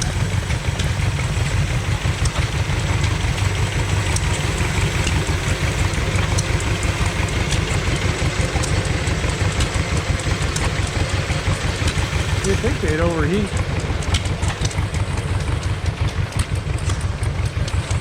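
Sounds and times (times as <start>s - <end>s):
engines idling: 0.0s - 18.0s
faint ticking: 0.0s - 18.0s.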